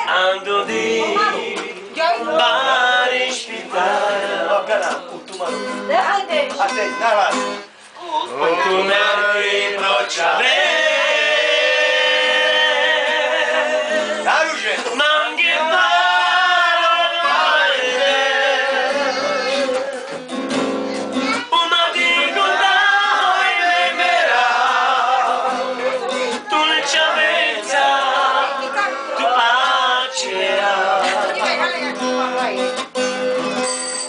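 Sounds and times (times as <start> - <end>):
group singing along: 0.0 - 5.1, 8.3 - 20.3, 21.5 - 32.6
man singing: 0.0 - 5.2, 8.3 - 20.4, 21.3 - 32.6
acoustic guitar: 0.0 - 34.0.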